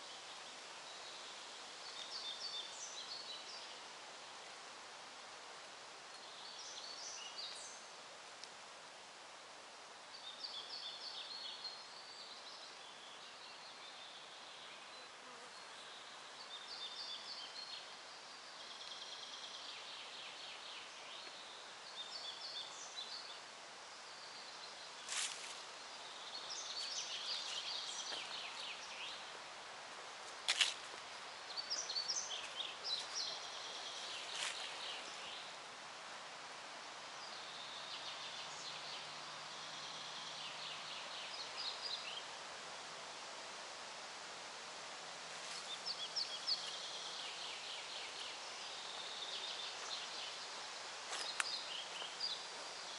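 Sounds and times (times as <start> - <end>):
songbirds singing: 0.0 - 4.1, 6.0 - 8.0, 10.0 - 43.1, 45.4 - 52.9
steady hiss: 0.0 - 52.9.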